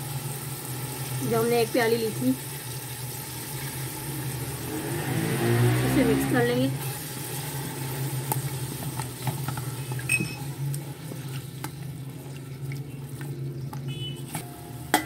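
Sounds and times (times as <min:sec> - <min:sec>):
soft sizzle in pot: 0:00.0 - 0:15.0.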